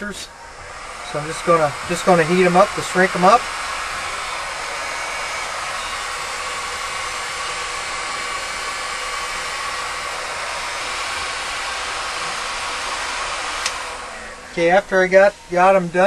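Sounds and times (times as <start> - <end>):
faint motor whine: 0.0 - 16.0
heat gun blowing air: 0.0 - 16.0.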